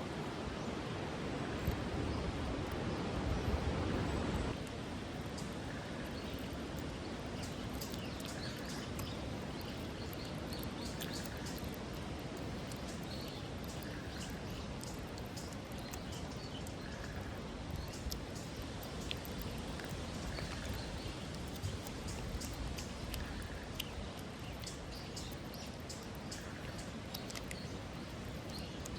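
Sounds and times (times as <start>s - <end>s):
steady outdoor hiss: 0.0s - 28.9s.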